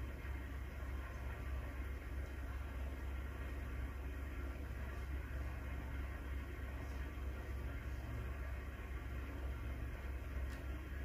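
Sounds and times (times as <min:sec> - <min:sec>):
aquarium aeration hum and hiss: 0:00.0 - 0:11.0.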